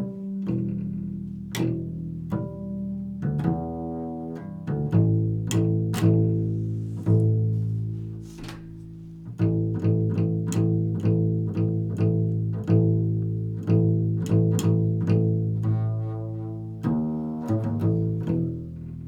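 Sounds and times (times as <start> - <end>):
low plucked string notes: 0.0 - 19.0.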